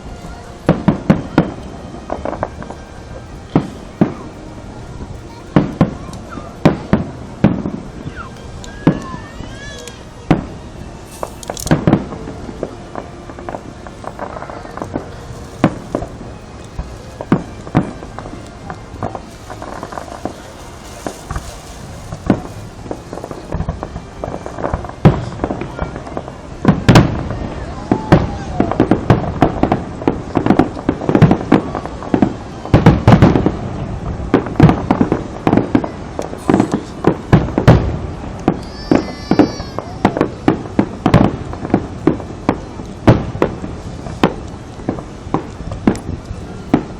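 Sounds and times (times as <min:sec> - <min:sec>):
fireworks bangs: 0:00.0 - 0:46.9
fireworks pops and crackles: 0:00.0 - 0:46.9.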